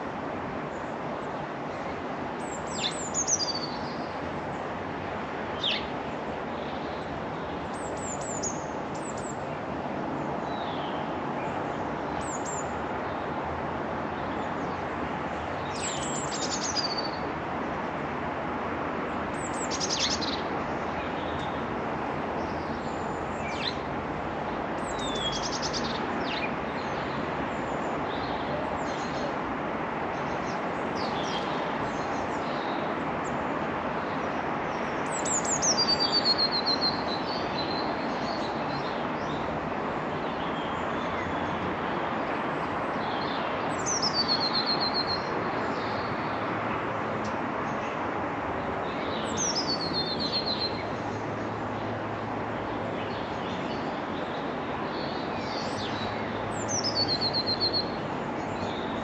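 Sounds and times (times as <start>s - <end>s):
songbirds chirping: 0.0s - 59.0s
steady background hiss: 0.0s - 59.0s.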